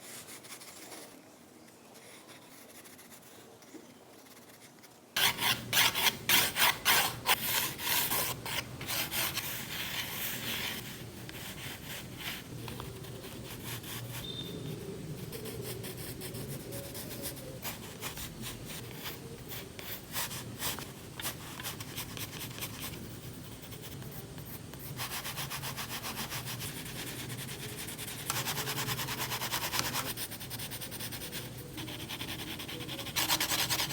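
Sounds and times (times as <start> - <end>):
drawing tool scratching on paper: 4.2 - 23.0, 25.0 - 33.9.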